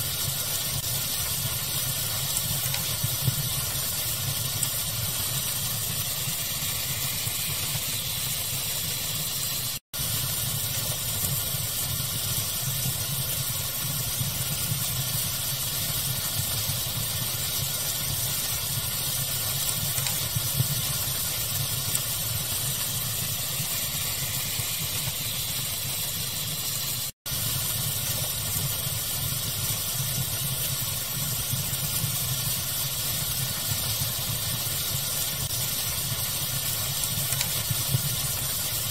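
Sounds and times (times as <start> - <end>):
fire hiss: 0.0 - 38.9.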